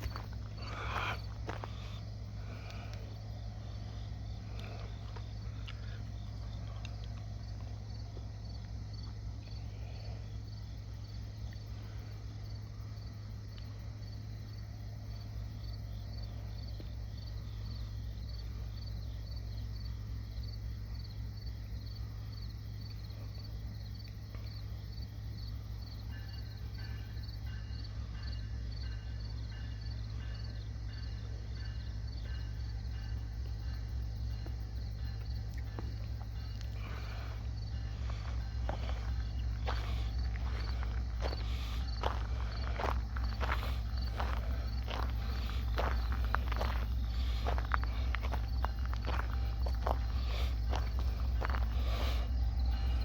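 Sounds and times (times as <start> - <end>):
insect pulsing call: 0.0 - 24.8, 25.6 - 53.0
crickets chirping: 0.0 - 53.0
steady low rumble: 0.0 - 53.0.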